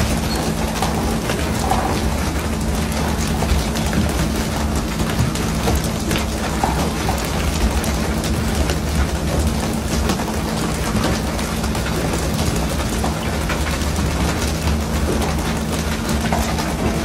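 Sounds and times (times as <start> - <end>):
fish splashing and slapping: 0.0 - 17.0.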